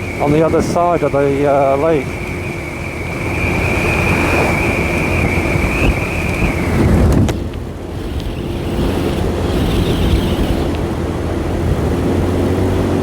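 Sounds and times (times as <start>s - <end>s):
high-pitched whine: 0.0s - 10.8s
motorcycle running: 0.0s - 13.0s
wind rushing over microphone: 0.0s - 13.0s.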